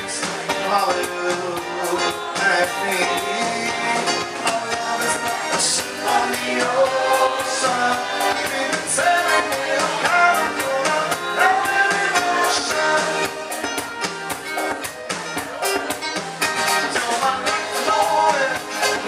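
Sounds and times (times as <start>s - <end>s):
person singing: 0.0s - 13.7s, 16.6s - 19.0s
dance music: 0.0s - 19.0s
steady drum beat: 0.0s - 19.0s.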